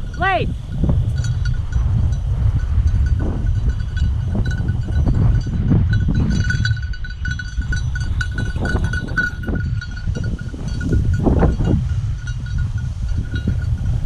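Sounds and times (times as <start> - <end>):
dog bell jingling: 0.0 - 14.0
wind rumble on microphone: 0.0 - 14.0.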